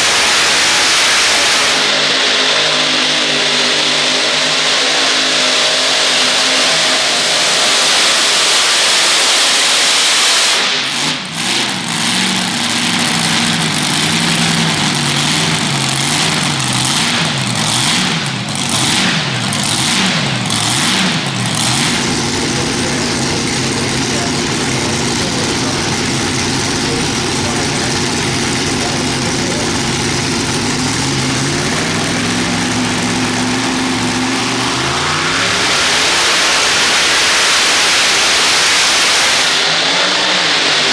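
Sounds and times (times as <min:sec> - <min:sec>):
tractor engine revving: 0:00.0 - 0:40.9.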